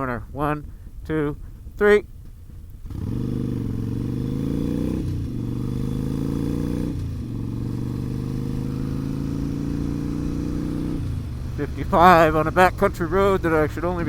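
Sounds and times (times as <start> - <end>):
motorcycle engine accelerating: 2.7 - 14.0.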